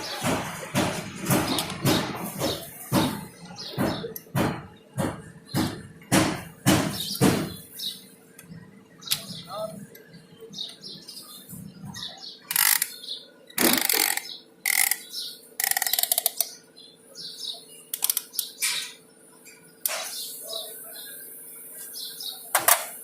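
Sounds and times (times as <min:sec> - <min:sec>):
harsh mechanical rasps and clanks: 0:00.0 - 0:16.6, 0:17.3 - 0:23.0
steady low hum: 0:00.0 - 0:22.5
birds chirping: 0:00.0 - 0:23.0.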